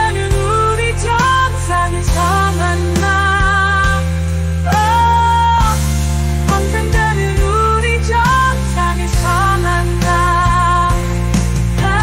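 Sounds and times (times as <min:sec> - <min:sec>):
pop song: 0:00.0 - 0:12.0.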